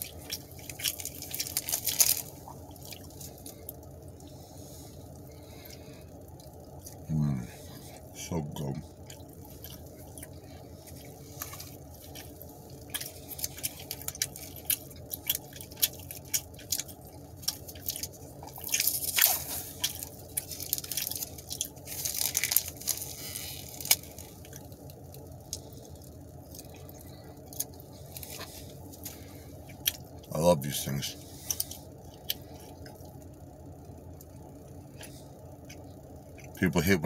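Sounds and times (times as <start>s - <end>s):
wet chewing and smacking: 0.0s - 7.1s, 8.9s - 30.3s, 31.1s - 36.6s
low hum: 0.0s - 37.0s.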